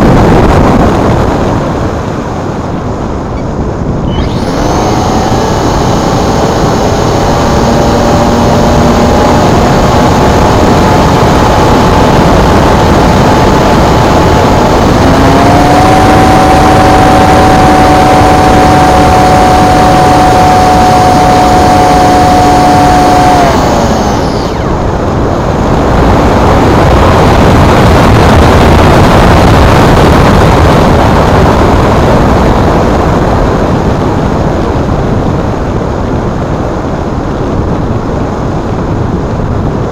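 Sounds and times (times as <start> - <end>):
rushing noise: 0.0 - 35.6
electric motor and propeller whining: 0.0 - 39.9.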